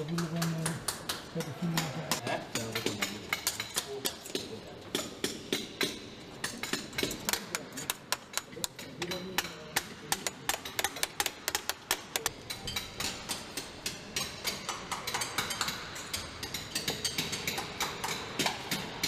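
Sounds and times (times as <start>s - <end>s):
hammer striking stone: 0.2s - 19.0s.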